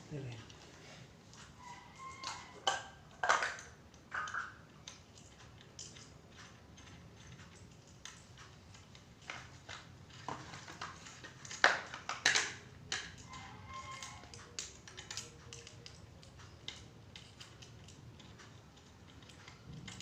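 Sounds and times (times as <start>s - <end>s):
hard objects clicking and knocking: 1.2s - 20.0s.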